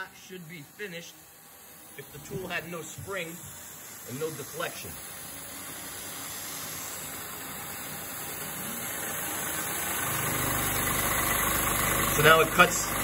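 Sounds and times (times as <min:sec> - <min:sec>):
coolant mist hiss: 0:00.0 - 0:13.0
milling machine cutting steel: 0:00.0 - 0:13.0.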